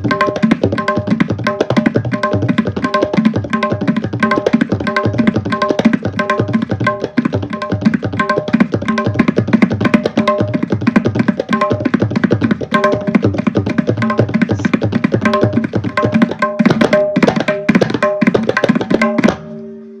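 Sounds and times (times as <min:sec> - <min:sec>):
tabla playing fast strokes: 0:00.0 - 0:20.0.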